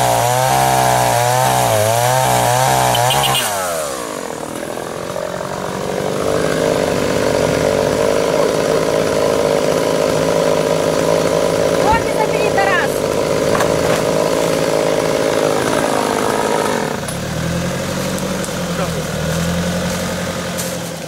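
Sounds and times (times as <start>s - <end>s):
chainsaw cutting log: 0.0s - 21.0s.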